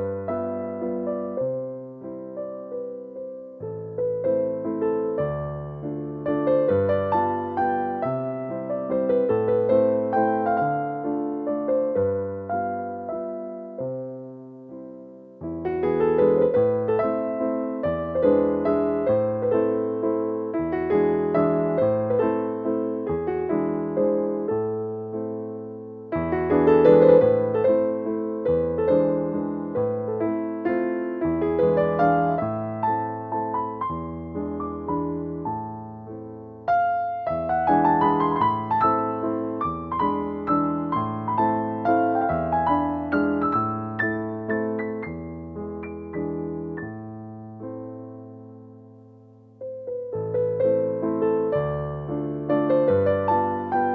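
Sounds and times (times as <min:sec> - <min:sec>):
solo piano waltz: 0:00.0 - 0:53.9.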